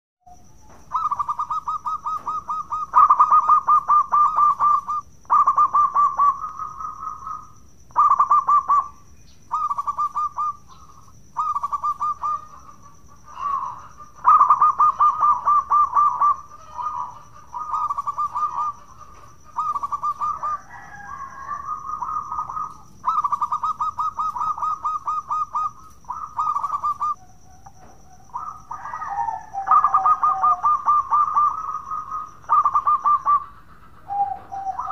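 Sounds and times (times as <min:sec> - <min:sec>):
dove cooing: 0:00.3 - 0:34.9.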